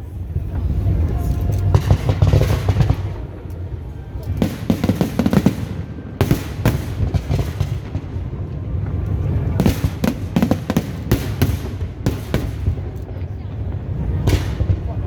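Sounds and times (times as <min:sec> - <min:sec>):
fireworks bangs: 0:01.6 - 0:03.5, 0:04.1 - 0:15.0.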